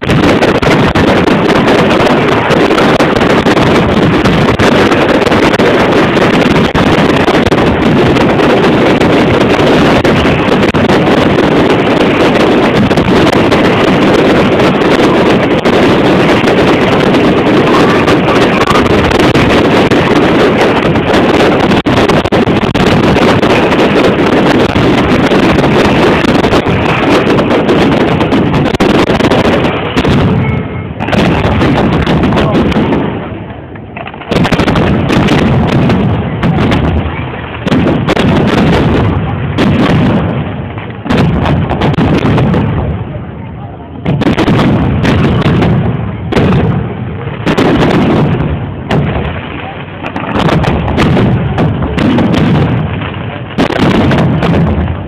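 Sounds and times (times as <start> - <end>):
fireworks bursts and booms: 0.0 - 55.0.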